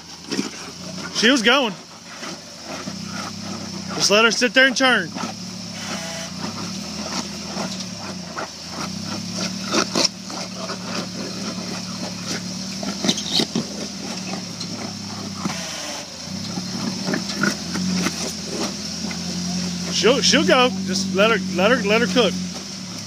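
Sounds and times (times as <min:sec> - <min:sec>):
engine running at low revs: 0:00.0 - 0:23.0
tires knocking and scraping rock: 0:00.0 - 0:23.0.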